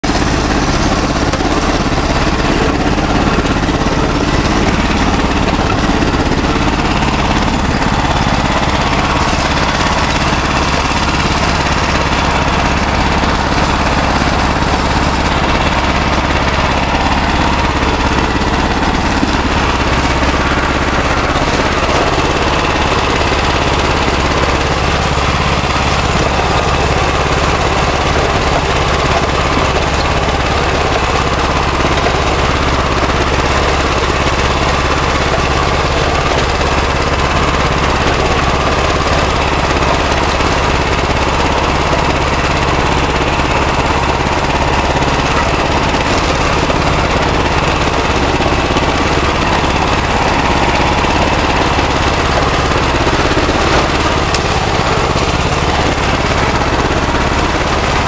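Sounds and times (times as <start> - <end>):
garden tractor engine running: 0.0 - 58.0.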